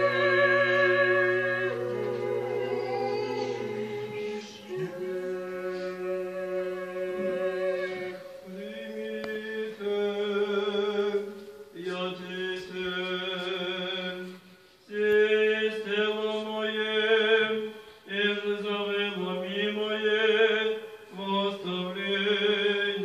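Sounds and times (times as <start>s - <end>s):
unaccompanied liturgical chant: 0.0s - 23.0s.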